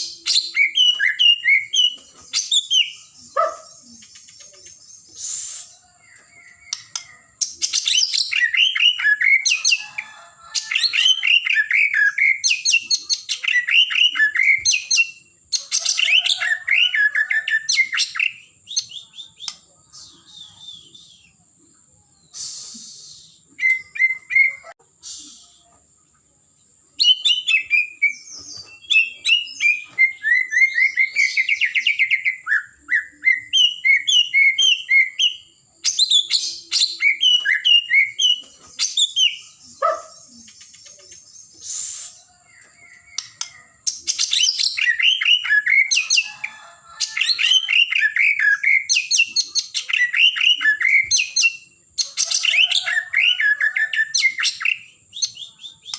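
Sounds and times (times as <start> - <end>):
songbird whistling and chirping: 0.0 - 25.9, 26.9 - 55.9.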